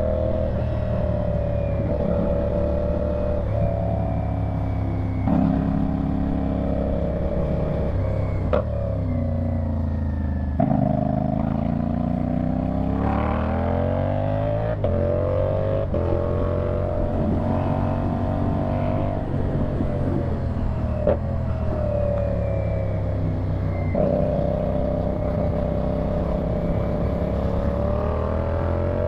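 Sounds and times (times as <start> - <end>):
motorcycle engine through gear changes: 0.0 - 29.0.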